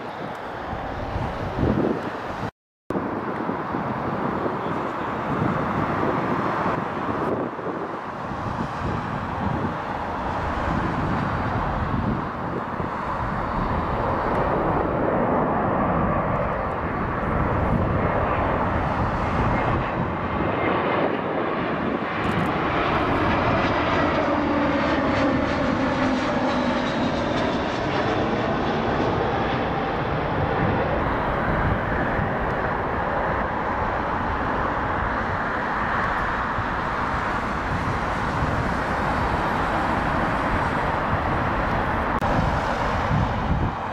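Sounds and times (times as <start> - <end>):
jet engines passing: 0.0 - 43.9.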